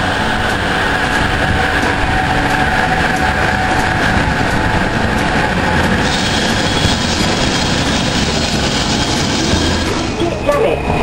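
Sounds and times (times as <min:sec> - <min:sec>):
high whine: 0:00.0 - 0:11.0
train wheels rumbling on rail: 0:00.0 - 0:11.0.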